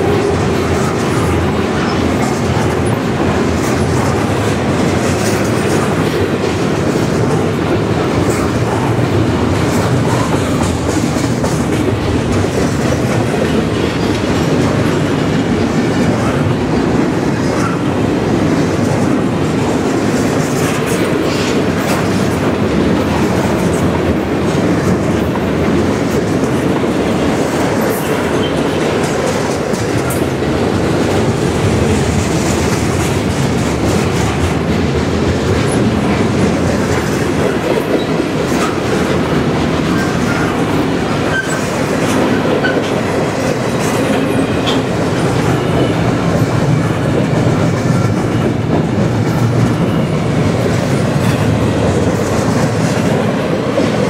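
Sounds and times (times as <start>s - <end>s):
steel wheels rumbling on rails: 0.0s - 54.0s
wheels clickety-clack over track: 0.0s - 54.0s.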